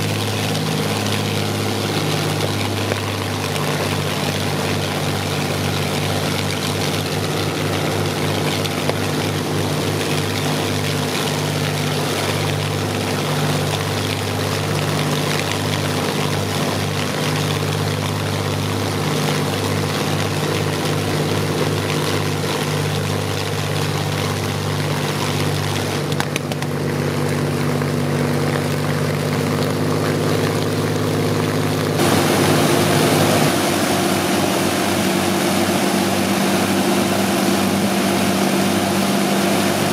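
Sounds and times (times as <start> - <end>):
aircraft engine running steadily: 0.0 - 39.9
two aircraft engines running: 0.0 - 39.9.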